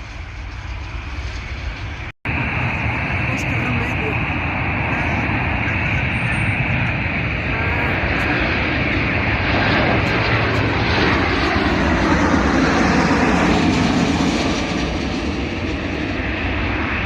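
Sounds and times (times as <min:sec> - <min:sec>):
jet engines passing: 0:00.0 - 0:17.0.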